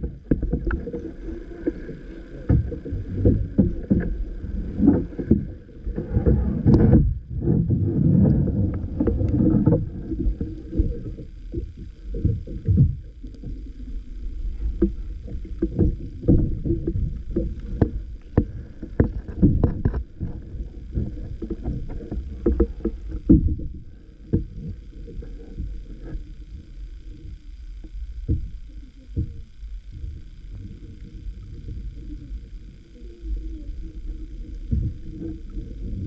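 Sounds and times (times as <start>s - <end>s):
muffled underwater water slosh: 0.0s - 36.0s
underwater knocks and clicks: 0.0s - 36.0s.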